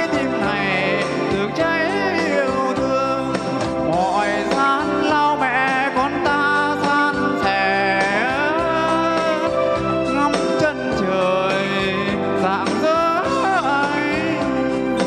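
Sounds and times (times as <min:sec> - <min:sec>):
song with vibrato and instruments: 0:00.0 - 0:15.0.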